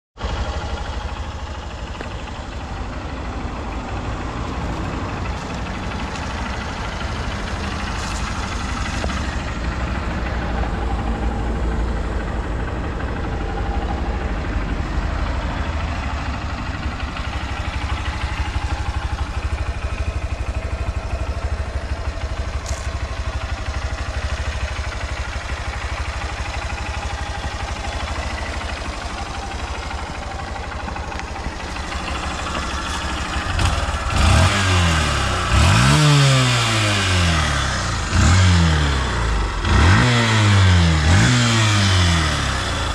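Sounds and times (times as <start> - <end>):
motorcycle engine idling: 0.2 - 42.9.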